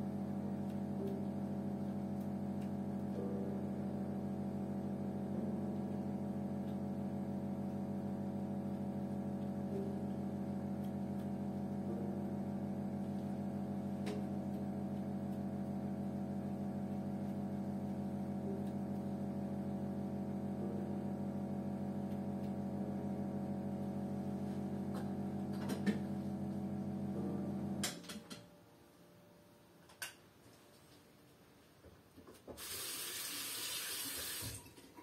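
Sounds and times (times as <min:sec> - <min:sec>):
machine electrical hum: 0:00.0 - 0:35.0.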